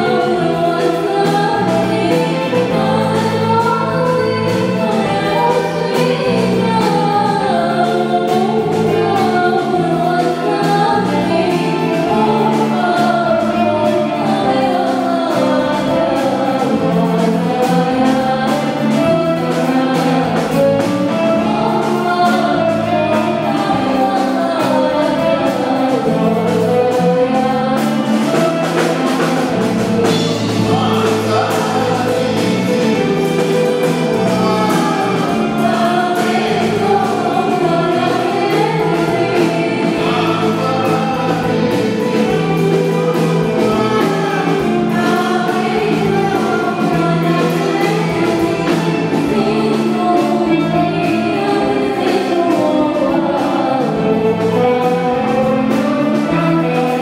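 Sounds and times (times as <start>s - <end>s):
women singing together: 0.0s - 57.0s.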